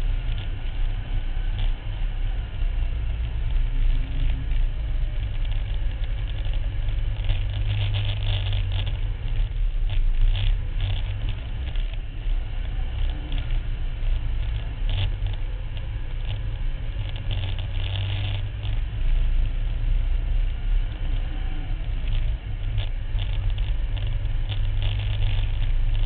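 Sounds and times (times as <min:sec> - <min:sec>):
crackling noise: 0:00.0 - 0:26.0
vehicle engine droning: 0:00.0 - 0:26.0.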